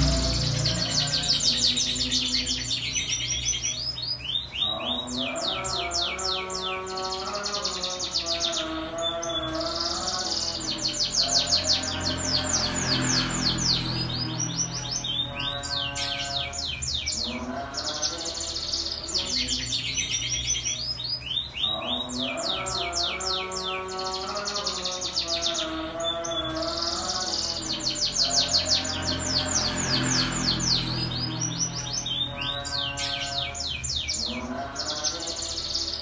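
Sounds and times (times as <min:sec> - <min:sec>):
canary singing: 0:00.0 - 0:36.0.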